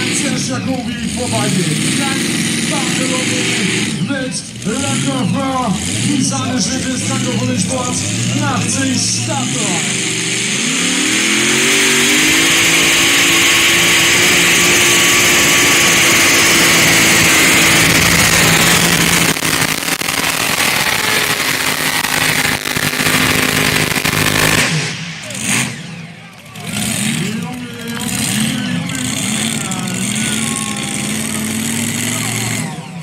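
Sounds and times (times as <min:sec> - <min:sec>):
tractor engine revving: 0:00.0 - 0:33.0.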